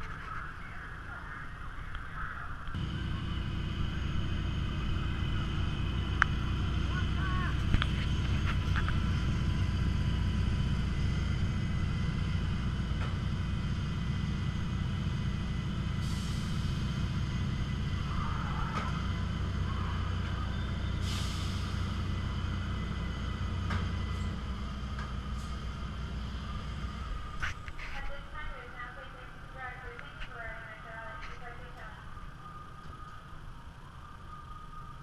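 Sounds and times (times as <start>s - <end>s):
dragster engine rumbling: 2.5s - 31.7s.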